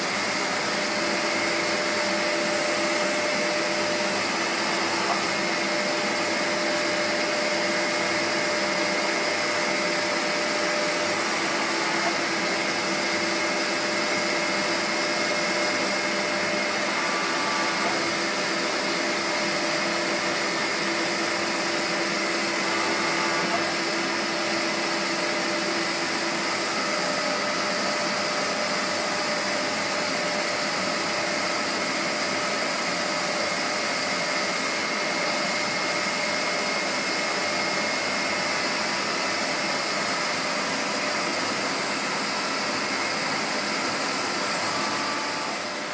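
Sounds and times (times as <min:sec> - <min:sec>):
milling machine whirring: 0:00.0 - 0:45.9.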